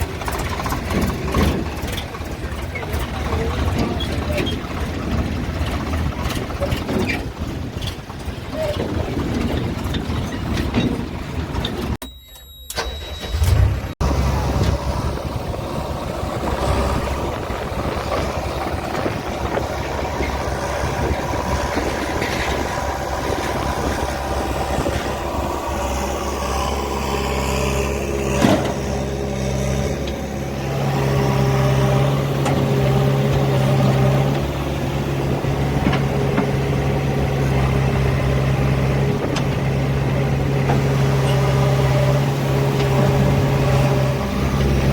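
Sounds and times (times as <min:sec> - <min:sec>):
heavy machinery diesel engine running: 0:00.0 - 0:12.0, 0:12.7 - 0:44.9.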